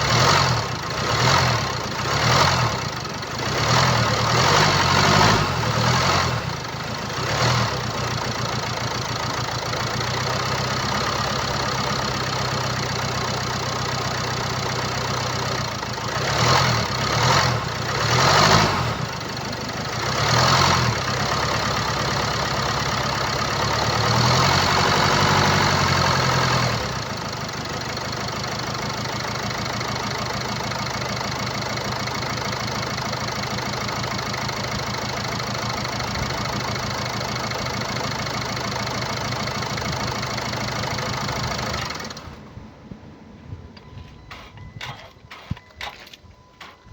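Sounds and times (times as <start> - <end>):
diesel engine idling and revving: 0.0 - 46.9.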